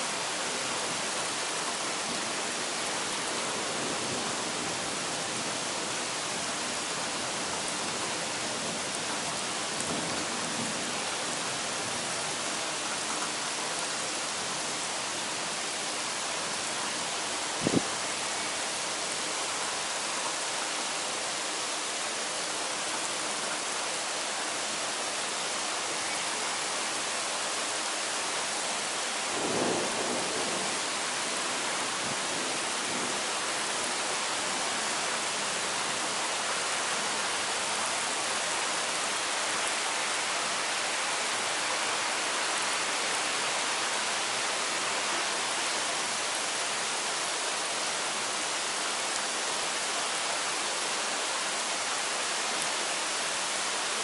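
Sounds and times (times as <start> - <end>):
heavy rain on trees and pavement: 0.0 - 54.0.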